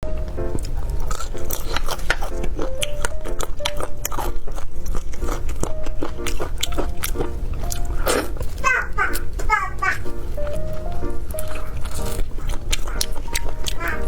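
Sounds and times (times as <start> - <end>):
background music: 0.0 - 14.0
crunchy chewing: 0.1 - 14.0.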